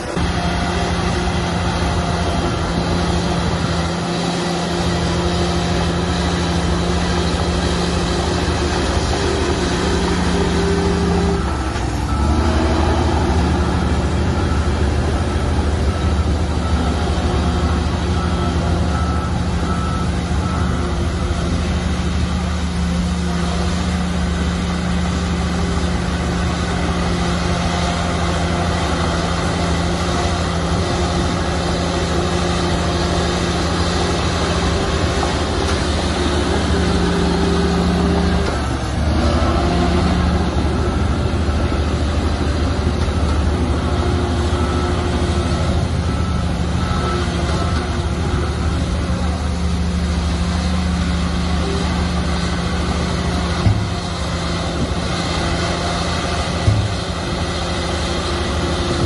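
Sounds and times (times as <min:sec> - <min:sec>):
bulldozer diesel engine running: 0:00.0 - 0:59.0
reversing alarm beeps: 0:00.1 - 0:50.2.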